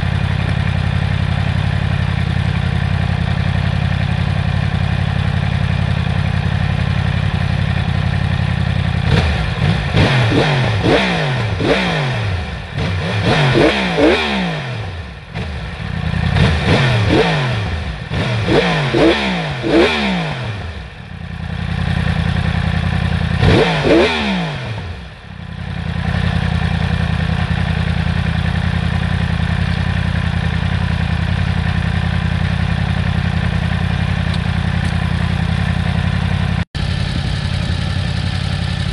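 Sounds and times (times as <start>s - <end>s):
motorcycle engine idling: 0.0s - 38.9s
motorcycle throttle blips: 0.0s - 38.9s.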